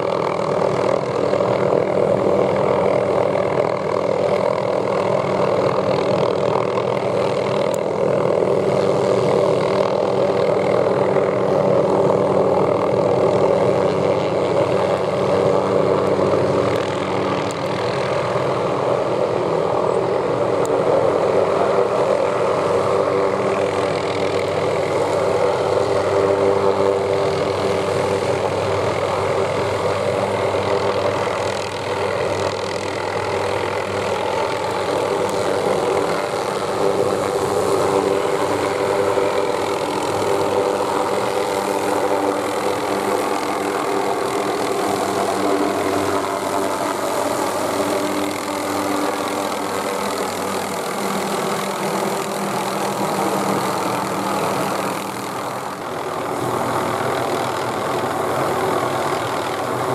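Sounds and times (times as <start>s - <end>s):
helicopter rotor buzz: 0.0s - 59.9s
helicopter turbine whine: 0.0s - 59.9s.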